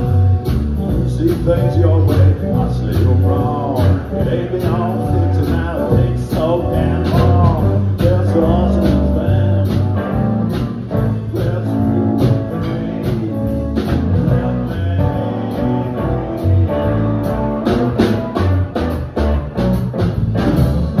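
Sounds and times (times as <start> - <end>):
drum kit beat: 0.0 - 21.0
electric bass line: 0.0 - 21.0.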